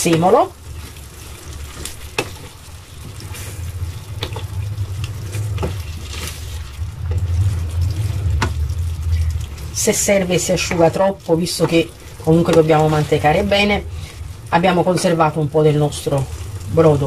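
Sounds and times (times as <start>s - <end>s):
food cooking in a pan: 0.0s - 17.0s
low steady rumble: 0.0s - 17.0s.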